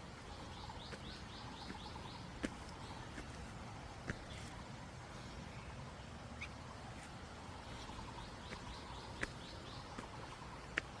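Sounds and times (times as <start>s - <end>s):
birds chirping: 0.0s - 11.0s
low outdoor background noise: 0.0s - 11.0s.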